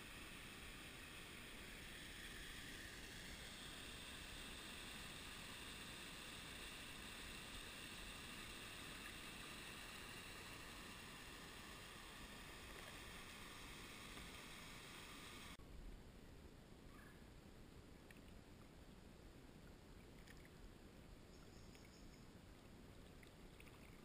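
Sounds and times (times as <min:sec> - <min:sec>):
creek water over rocks: 0:00.0 - 0:15.6, 0:18.0 - 0:24.0.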